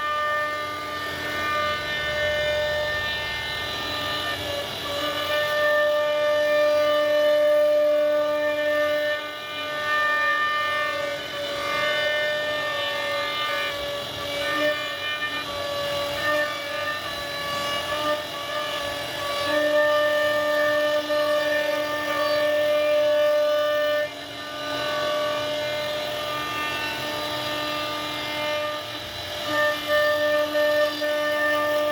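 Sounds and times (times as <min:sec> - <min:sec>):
router spindle whining: 0:00.0 - 0:31.9.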